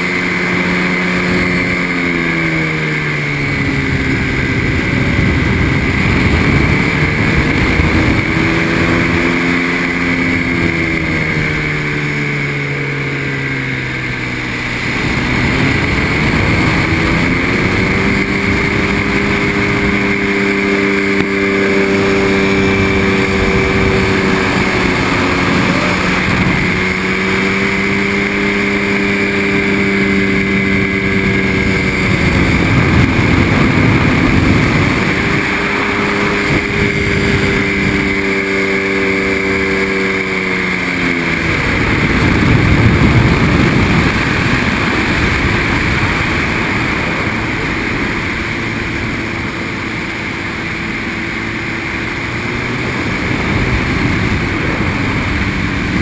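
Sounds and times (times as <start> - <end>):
trike engine running: 0.0 - 56.0
wind rushing over microphone: 0.0 - 56.0.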